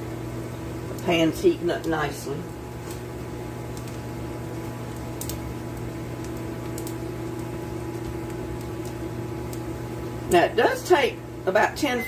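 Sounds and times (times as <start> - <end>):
food crackling in a skillet: 0.0 - 11.4
kitchen appliance humming: 0.0 - 12.0.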